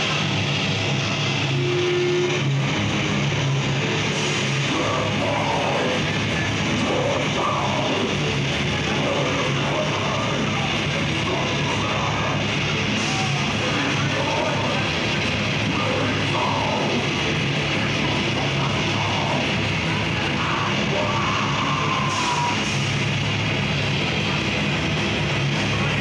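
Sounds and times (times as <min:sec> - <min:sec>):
distorted guitars and drums: 0:00.0 - 0:26.0
metal vocalist: 0:00.0 - 0:26.0.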